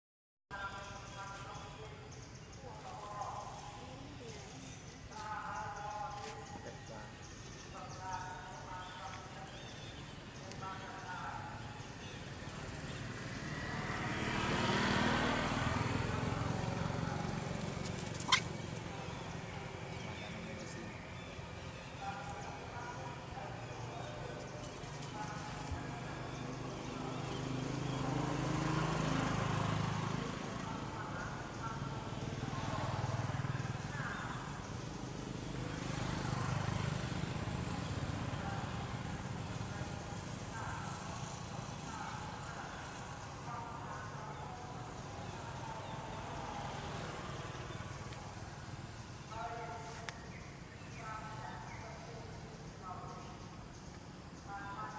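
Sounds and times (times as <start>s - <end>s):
vehicle passing: 5.8s - 54.9s.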